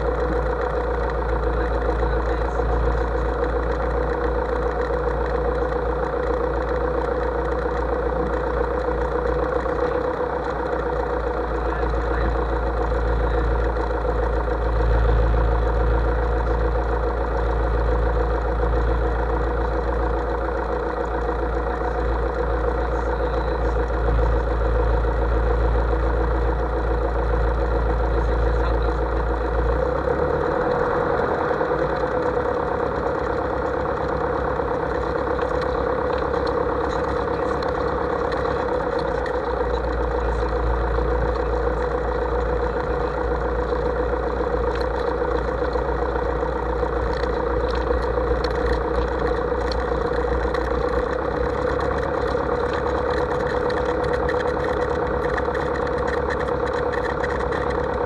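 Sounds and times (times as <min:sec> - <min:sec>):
airplane engine and propeller drone: 0:00.0 - 0:58.0.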